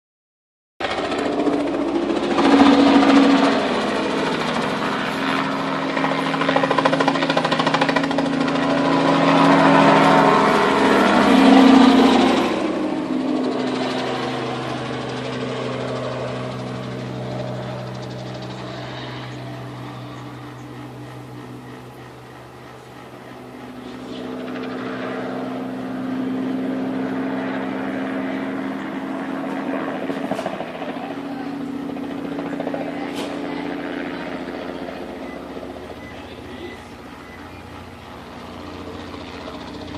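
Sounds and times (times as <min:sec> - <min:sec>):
helicopter engine and rotor: 0:00.8 - 0:39.9.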